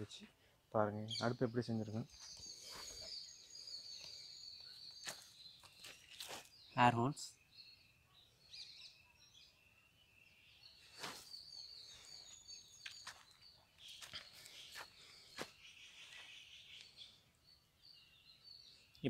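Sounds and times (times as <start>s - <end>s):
distant birds chirping: 0.0s - 19.0s.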